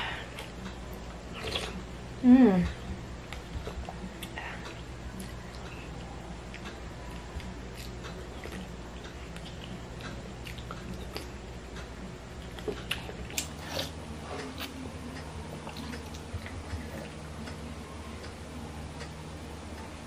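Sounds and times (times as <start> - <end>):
mouth sounds eating: 0.0 - 18.4
low hum: 0.0 - 20.0.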